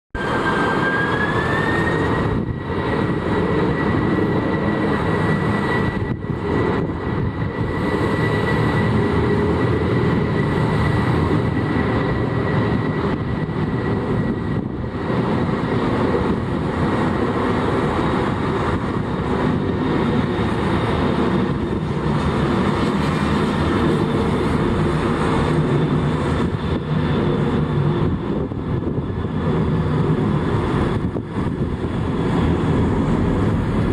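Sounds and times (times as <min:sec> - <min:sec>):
jet airliner taking off: 0:00.1 - 0:33.9.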